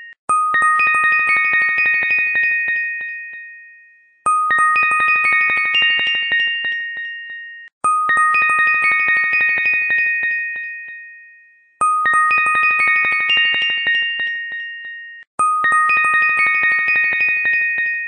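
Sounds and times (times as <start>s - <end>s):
tinkling chime music: 0.0s - 18.0s.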